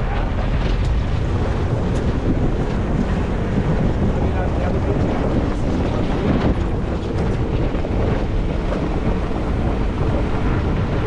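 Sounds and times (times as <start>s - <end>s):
vehicle engine rumbling: 0.0s - 11.0s
wind buffeting microphone: 0.0s - 11.0s.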